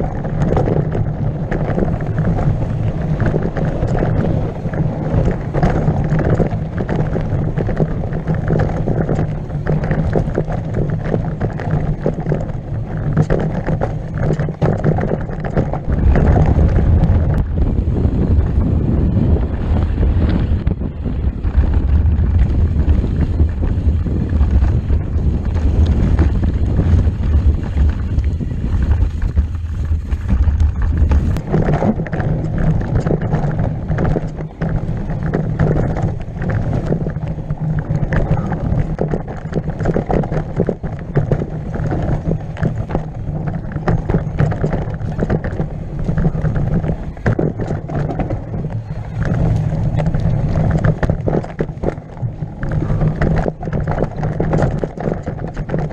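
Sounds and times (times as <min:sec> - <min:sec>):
bike rattling over rough trail: 0:00.0 - 0:55.9
wind buffeting microphone: 0:00.0 - 0:55.9.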